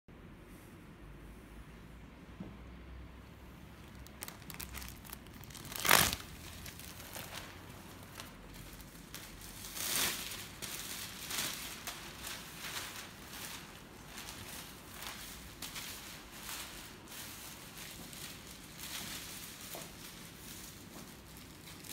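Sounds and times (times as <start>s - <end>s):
plastic apron crinkling: 3.7s - 21.9s
plastic rustling: 3.7s - 21.9s
plastic apron ripping: 3.8s - 21.9s.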